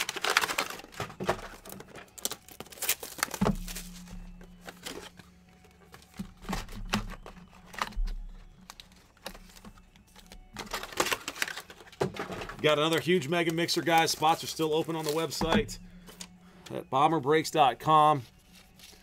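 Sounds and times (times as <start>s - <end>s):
cardboard packaging crinkling and tearing: 0.0s - 15.6s, 18.3s - 19.0s.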